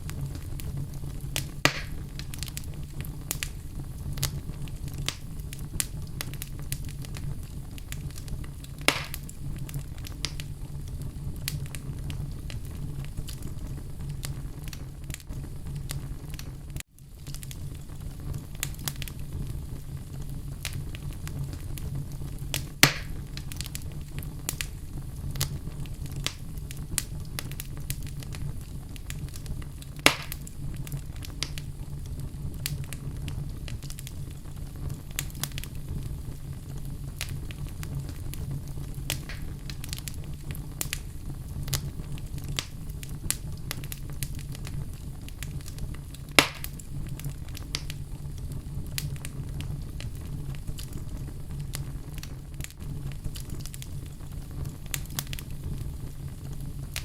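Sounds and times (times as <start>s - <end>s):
fire crackling: 0.0s - 57.0s
loud fire pops: 0.0s - 57.0s
wood fire rumbling and hissing: 0.0s - 57.0s.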